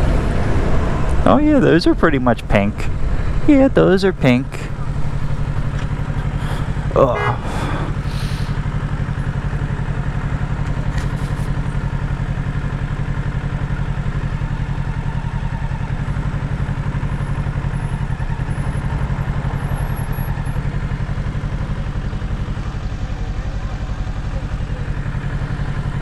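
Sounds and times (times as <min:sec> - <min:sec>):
motorcycle engine idling: 0:00.1 - 0:26.0.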